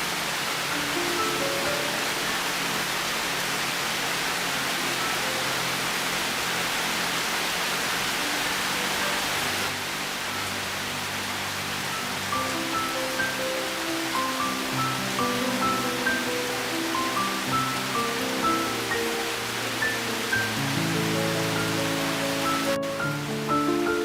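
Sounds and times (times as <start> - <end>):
steady rain falling: 0.0 - 24.0
soft piano notes: 0.5 - 6.9, 8.0 - 24.0.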